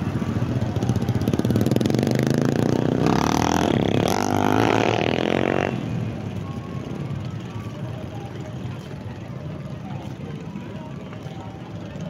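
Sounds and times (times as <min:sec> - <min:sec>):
motorcycle and car engines running: 0:00.0 - 0:12.0.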